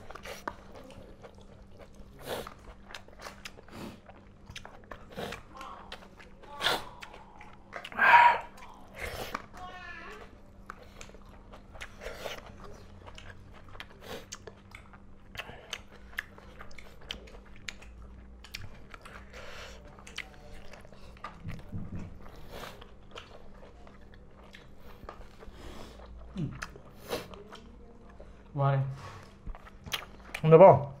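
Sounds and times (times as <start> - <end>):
wet chewing and biting: 0.0 - 9.6, 10.2 - 28.2, 29.3 - 30.5.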